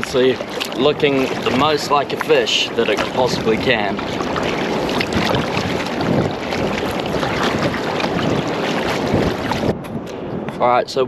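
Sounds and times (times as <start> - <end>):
water splashing around kayak: 0.0 - 9.8
wind buffeting microphone: 0.0 - 11.0.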